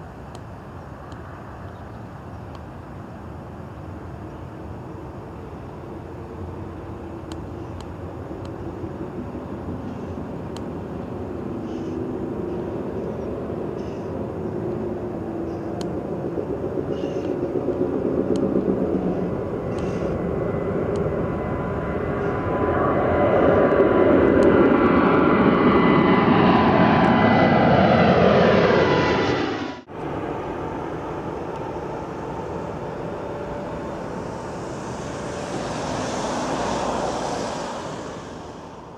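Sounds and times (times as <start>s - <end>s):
jet engines at takeoff thrust: 0.0s - 38.9s
rising fan whine: 0.0s - 38.9s.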